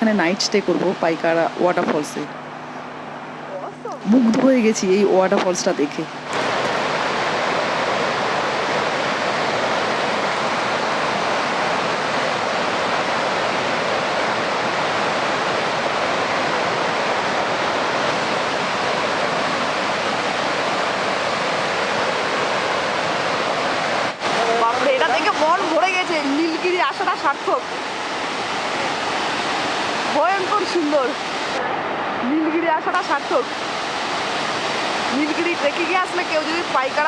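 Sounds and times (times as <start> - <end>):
waterfall rushing: 5.1 - 37.0.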